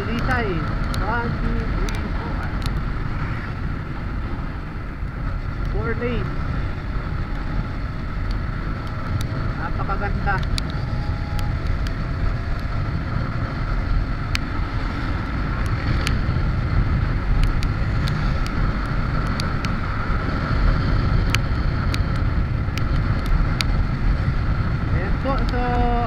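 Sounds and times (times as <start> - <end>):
motorcycle engine cruising: 0.0 - 26.0
wind and road noise: 0.0 - 26.0
sharp ticks: 0.1 - 3.5, 6.8 - 26.0.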